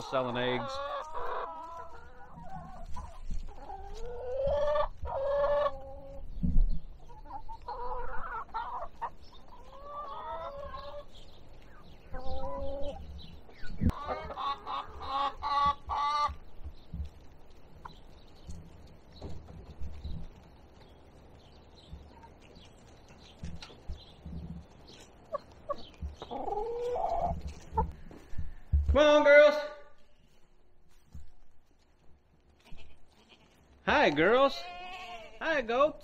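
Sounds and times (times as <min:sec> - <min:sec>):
hens clucking: 0:00.0 - 0:35.3.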